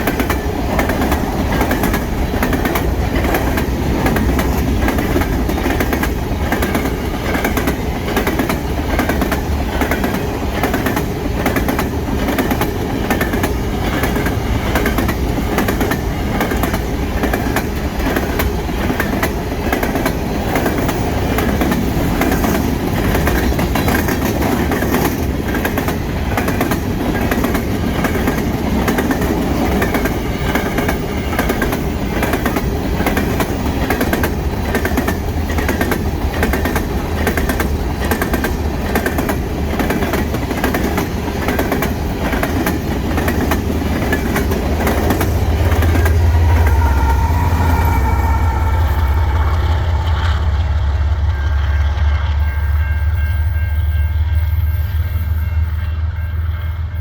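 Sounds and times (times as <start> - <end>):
train wheels clicking on rail joints: 0.0 - 55.8
train rumbling: 0.0 - 57.0.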